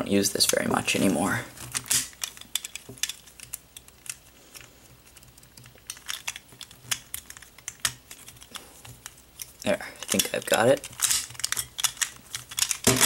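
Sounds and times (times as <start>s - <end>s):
plastic puzzle pieces clicking: 1.6s - 13.0s.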